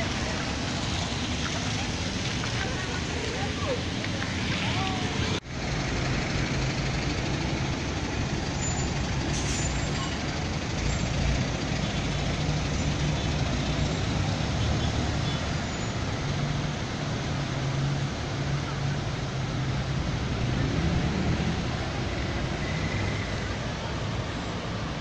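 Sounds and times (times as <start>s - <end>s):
truck diesel engine humming: 0.0s - 20.3s
car engines running: 0.0s - 25.0s
tyres through water: 0.0s - 25.0s.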